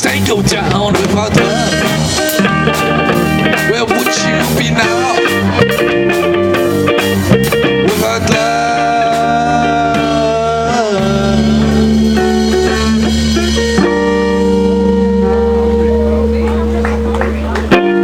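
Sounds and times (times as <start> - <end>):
guitar held high note bending: 0.0 - 18.0
rock music: 0.0 - 18.0.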